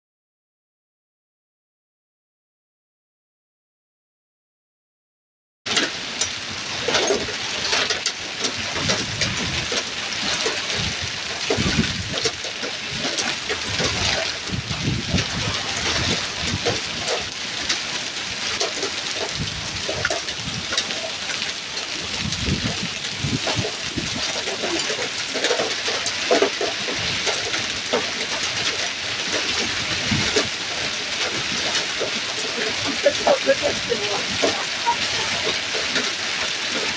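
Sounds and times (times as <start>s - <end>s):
hailstones ticking: 5.7s - 36.9s
heavy rain on paving: 5.7s - 36.9s.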